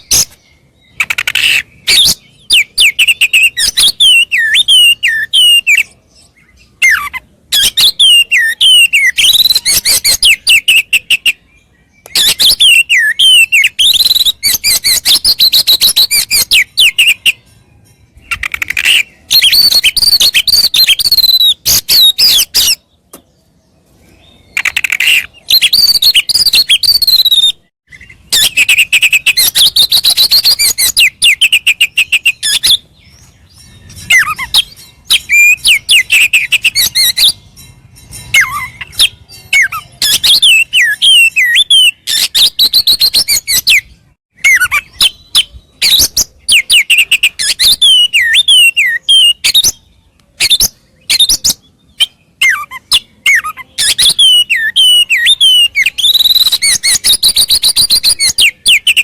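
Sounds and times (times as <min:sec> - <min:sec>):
bird singing whistles and warbles: 0:00.0 - 0:59.0.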